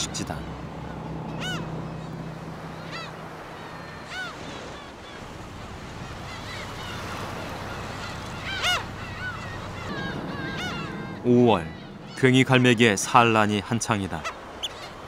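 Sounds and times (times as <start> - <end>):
gulls mewing calls: 0.0 - 15.0.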